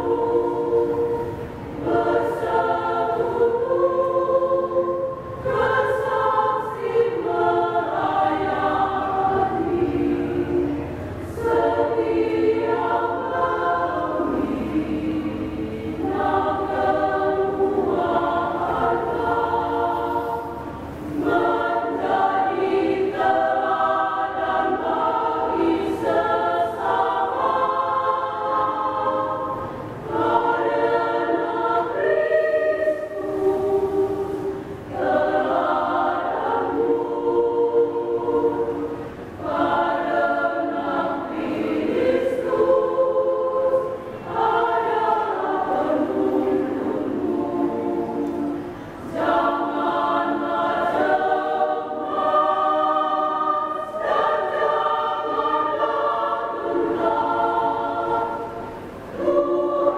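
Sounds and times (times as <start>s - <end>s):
women's choir singing a hymn: 0.0s - 59.9s.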